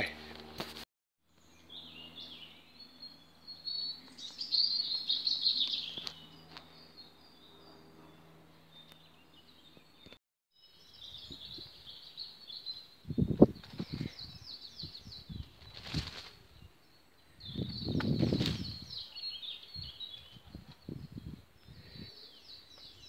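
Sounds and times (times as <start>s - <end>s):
songbirds singing and chirping: 1.3s - 23.0s.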